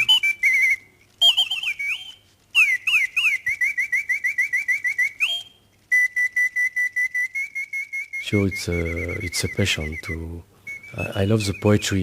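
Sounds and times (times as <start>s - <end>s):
mechanical bird whistling: 0.0s - 12.0s.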